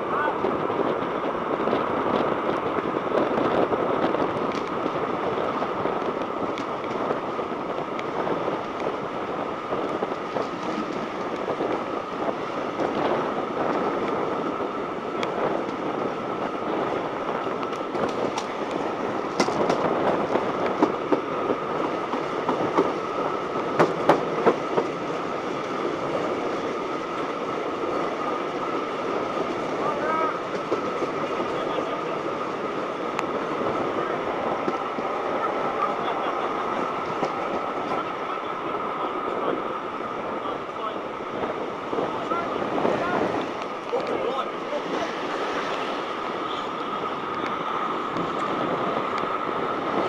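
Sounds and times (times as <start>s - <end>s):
train carriage rolling rush: 0.0s - 50.0s
wheels clacking over rails: 0.0s - 50.0s.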